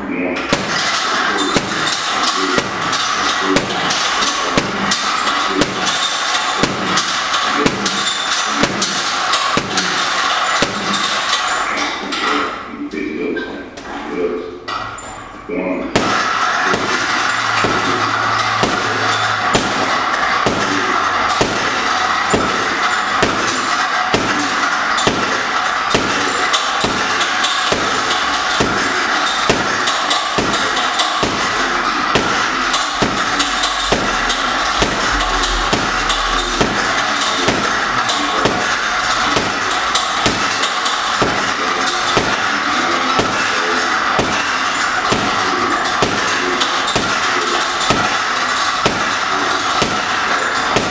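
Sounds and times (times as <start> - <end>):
gloves punching heavy bag: 0.5 - 11.6, 15.9 - 50.9.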